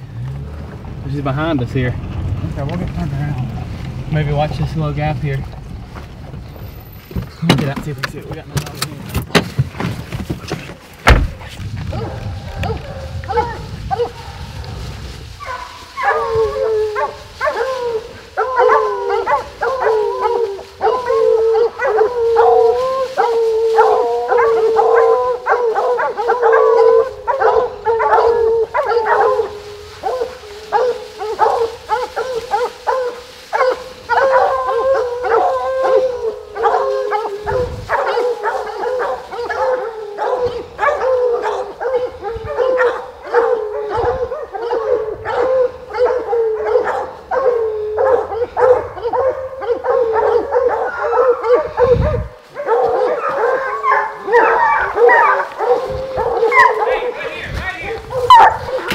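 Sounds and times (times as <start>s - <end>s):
hounds baying and barking: 10.4s - 58.9s.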